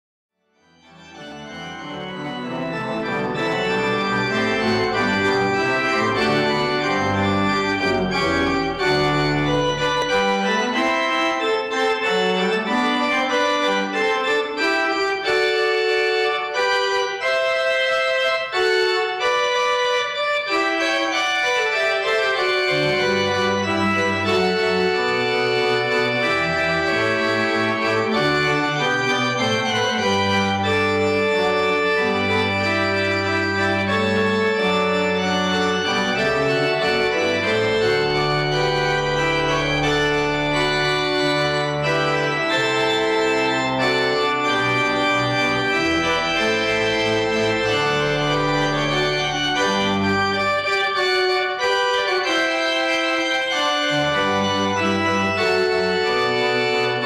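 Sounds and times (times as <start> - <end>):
pipe organ playing chords: 0.6 - 57.0.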